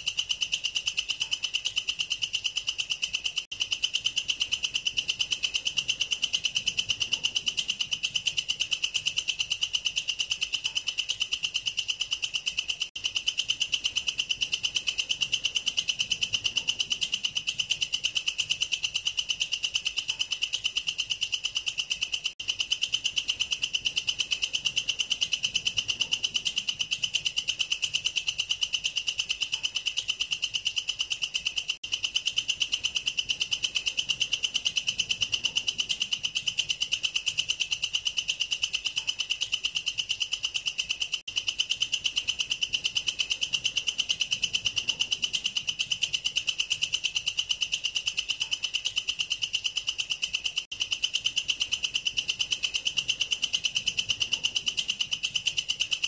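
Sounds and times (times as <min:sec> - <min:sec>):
katydid buzzing trill: 0:00.0 - 0:56.0.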